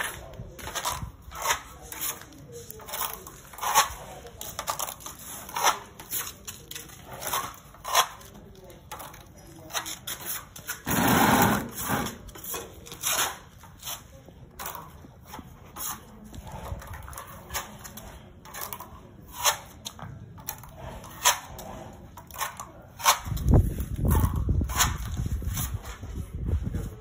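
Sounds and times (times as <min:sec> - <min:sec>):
trowel scraping drywall: 0:00.0 - 0:27.0.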